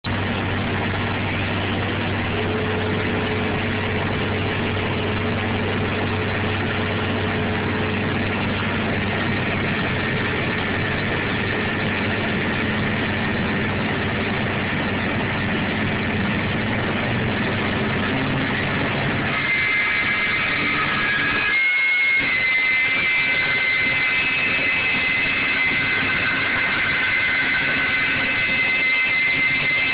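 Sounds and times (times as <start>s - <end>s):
machine humming and whining: 0.0s - 29.9s.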